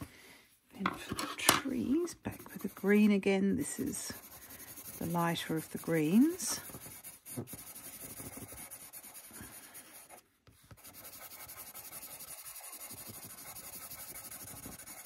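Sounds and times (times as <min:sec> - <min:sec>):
pencil scratching on paper: 0:01.2 - 0:15.0.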